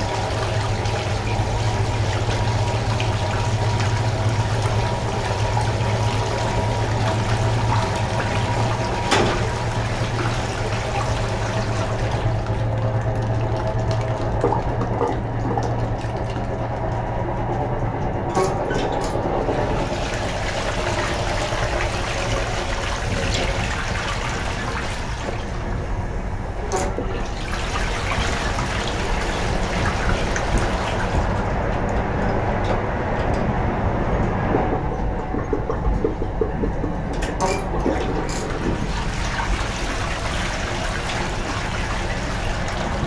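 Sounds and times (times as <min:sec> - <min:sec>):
toilet flushing: 0:00.0 - 0:43.0.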